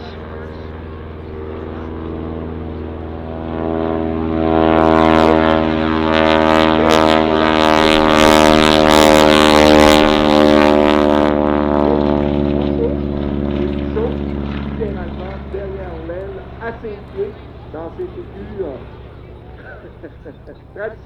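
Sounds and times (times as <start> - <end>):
propeller plane droning past: 0.0 - 21.0.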